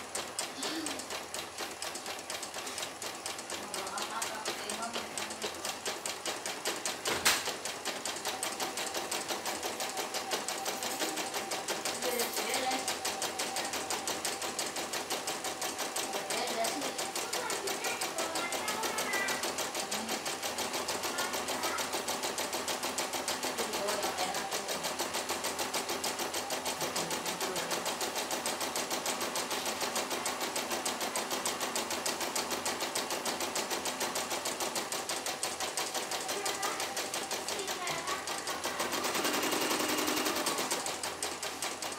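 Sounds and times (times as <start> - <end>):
embroidery machine needle clatter: 0.0 - 41.9.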